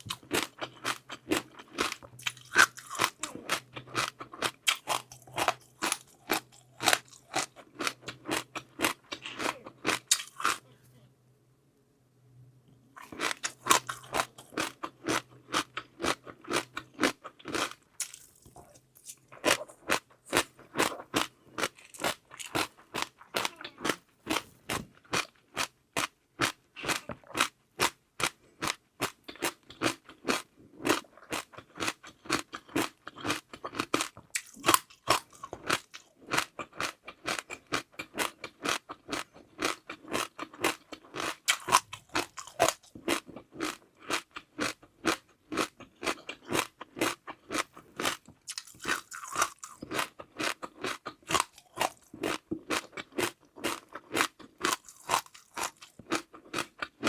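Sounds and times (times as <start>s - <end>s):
chewing crunchy food: 0.0s - 10.7s, 13.0s - 57.0s.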